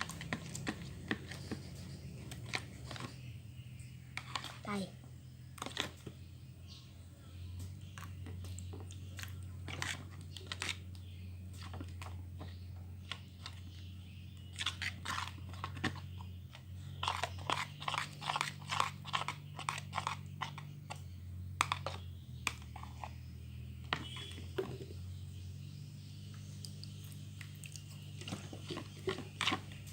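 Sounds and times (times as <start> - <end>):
slime squelching while stirred: 0.0 - 6.2, 7.8 - 25.1, 26.0 - 29.9.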